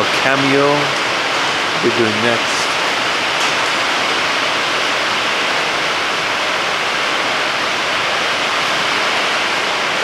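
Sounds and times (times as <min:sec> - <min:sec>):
heavy rain on a metal roof: 0:00.0 - 0:10.0.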